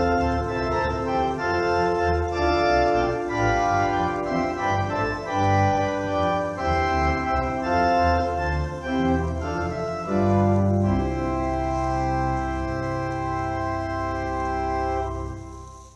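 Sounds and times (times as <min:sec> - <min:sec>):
church organ playing chords: 0:00.0 - 0:15.9.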